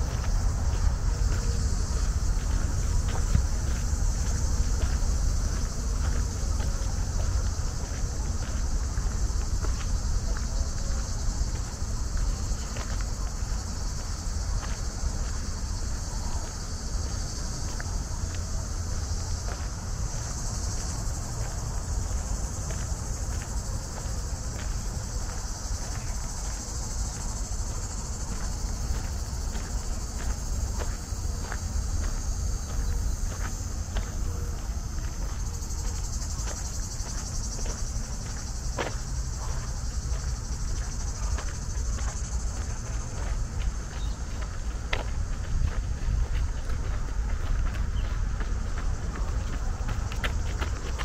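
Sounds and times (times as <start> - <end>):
footsteps on dirt path: 0.0 - 51.0
insects chirring: 0.0 - 51.0.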